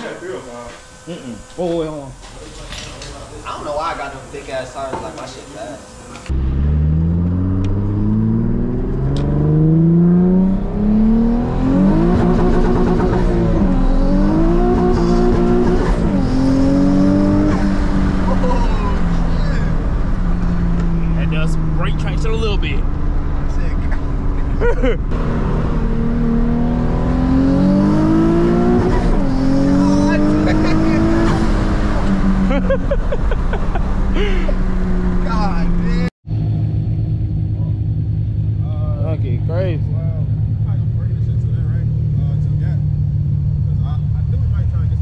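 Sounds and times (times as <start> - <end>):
car engine accelerating hard: 3.2 - 45.0.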